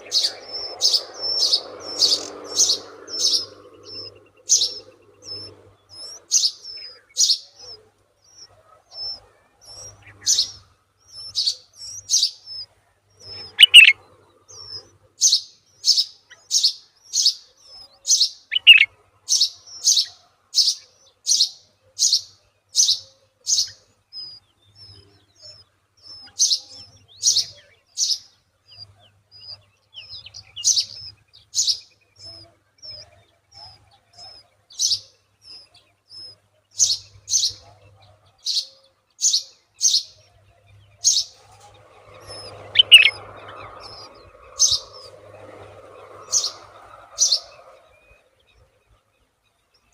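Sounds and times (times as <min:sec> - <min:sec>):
small bird chirping: 0:00.0 - 0:49.9.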